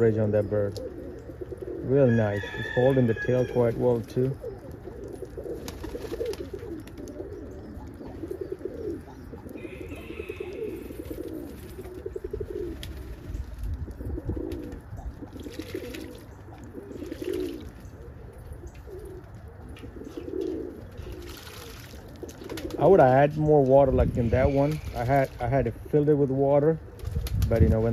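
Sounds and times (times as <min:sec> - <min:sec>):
pigeons cooing: 0:00.0 - 0:27.9.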